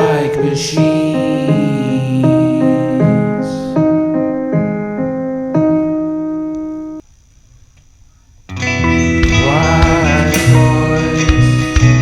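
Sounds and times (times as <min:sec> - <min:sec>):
piano playing slow chords: 0:00.0 - 0:07.0, 0:08.5 - 0:12.0.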